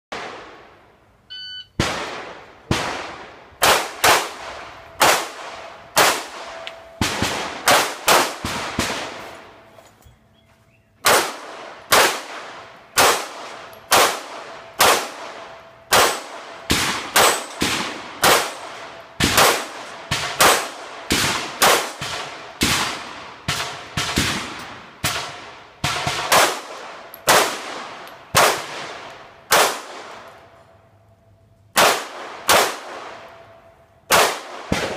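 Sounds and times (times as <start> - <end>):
gunshots echoing: 1.8 - 9.6, 11.0 - 30.3, 31.8 - 33.4, 34.1 - 34.9.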